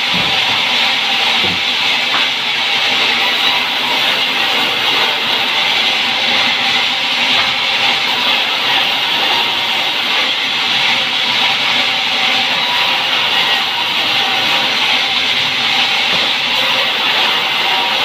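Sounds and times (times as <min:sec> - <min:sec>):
band saw cutting log: 0:00.0 - 0:18.0.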